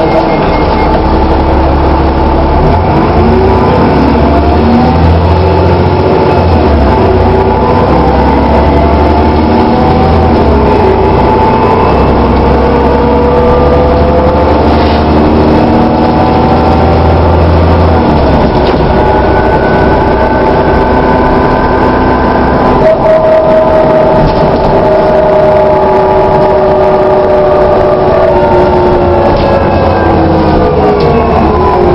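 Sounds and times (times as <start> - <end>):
bus engine drone: 0.0 - 31.9
whining tones: 0.0 - 31.9.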